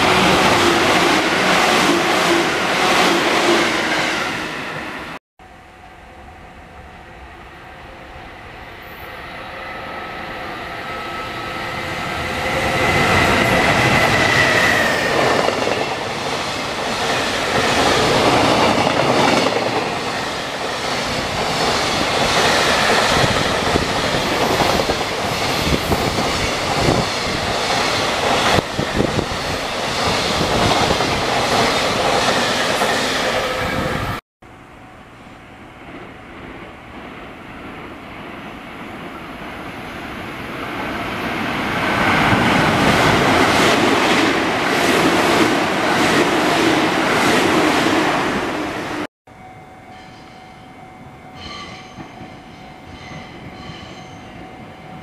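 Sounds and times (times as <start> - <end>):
freight train passing at speed: 0.0 - 55.0.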